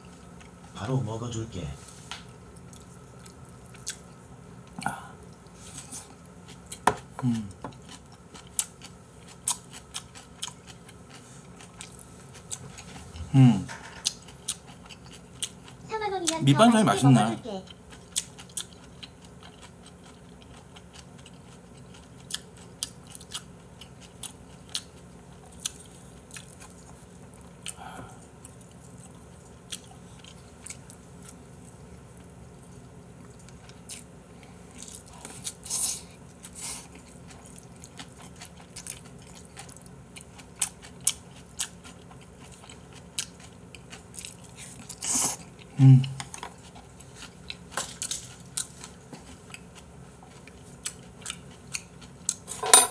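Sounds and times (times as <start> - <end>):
man chewing: 2.4 - 13.3, 13.9 - 15.9, 17.7 - 52.6.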